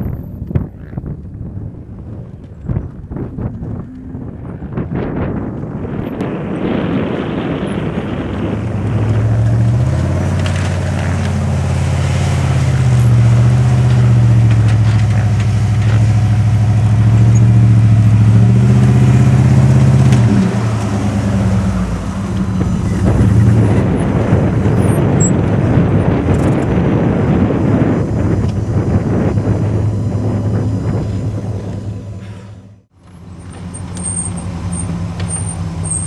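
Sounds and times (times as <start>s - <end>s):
truck engine under load: 0.0s - 36.0s
tyres on dirt: 2.0s - 36.0s.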